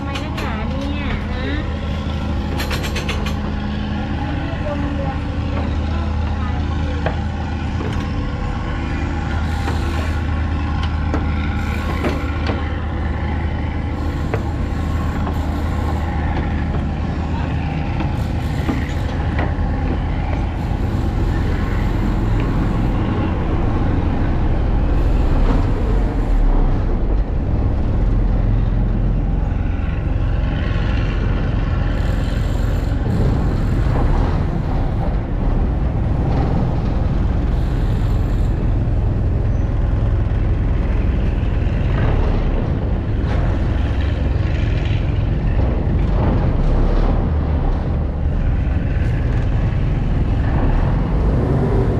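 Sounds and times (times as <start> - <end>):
city noise: 0.0 - 51.9
heavy engine humming: 0.0 - 51.9.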